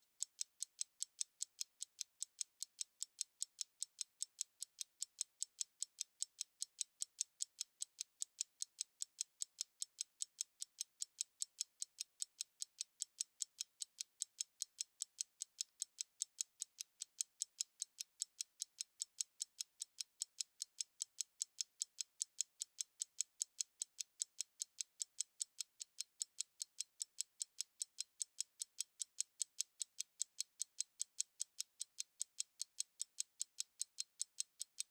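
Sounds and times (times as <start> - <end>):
stopwatch ticking: 0.0 - 34.9.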